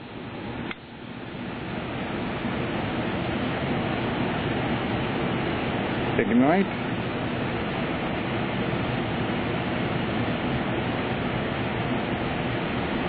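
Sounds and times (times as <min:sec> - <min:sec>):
air flow rushing from ventilation: 0:00.0 - 0:13.0.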